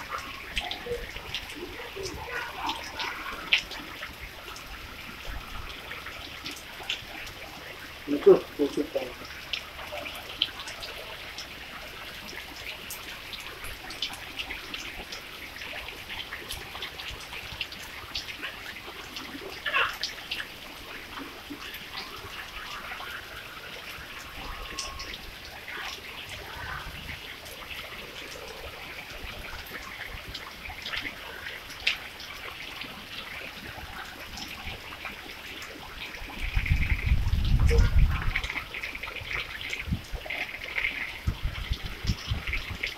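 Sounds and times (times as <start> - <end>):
rain on wet road: 0.0 - 42.9.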